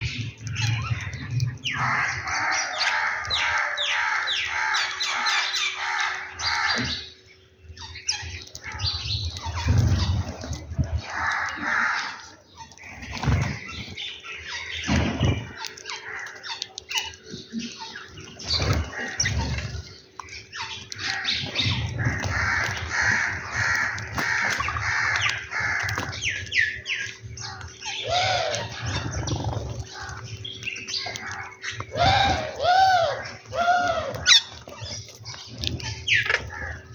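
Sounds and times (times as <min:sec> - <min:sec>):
birds squawking: 0:00.0 - 0:36.9
low arching bird calls: 0:00.0 - 0:36.9.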